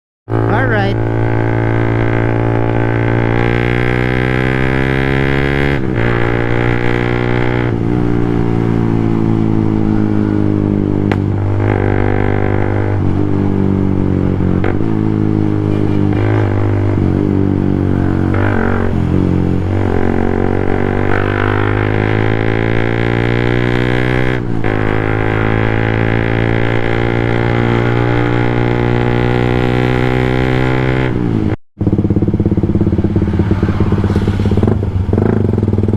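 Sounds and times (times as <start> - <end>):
motorcycle engine revving: 0.3 - 35.9.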